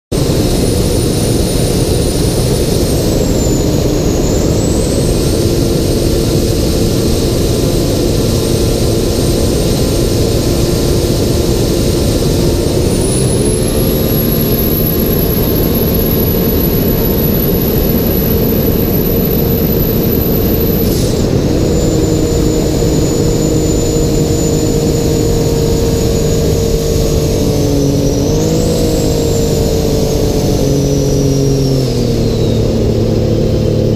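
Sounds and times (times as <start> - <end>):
high engine whine: 0.1 - 33.9
jet ski engine running hard: 0.1 - 33.9.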